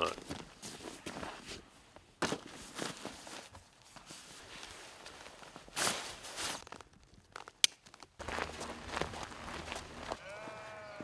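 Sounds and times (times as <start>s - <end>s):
nylon camping gear rustling: 0.0s - 10.8s.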